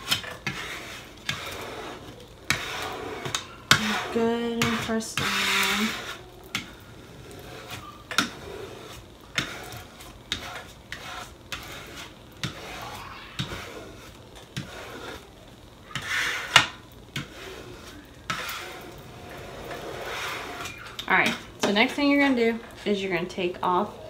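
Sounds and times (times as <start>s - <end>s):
squeegee scraping tape: 0.0s - 21.5s.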